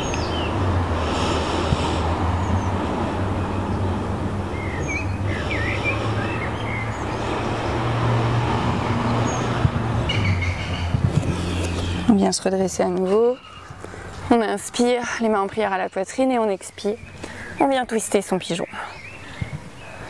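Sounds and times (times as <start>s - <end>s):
low rumble of road traffic: 0.0s - 20.0s
songbirds chirping: 0.0s - 20.0s.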